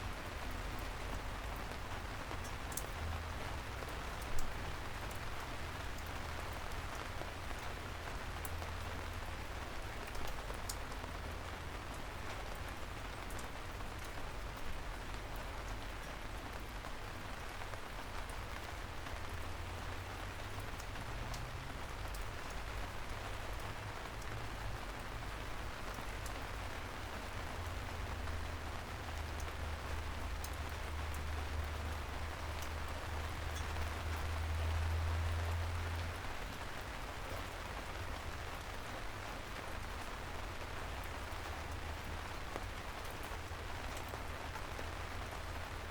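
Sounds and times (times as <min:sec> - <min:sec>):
soft rain on street: 0:00.0 - 0:45.9.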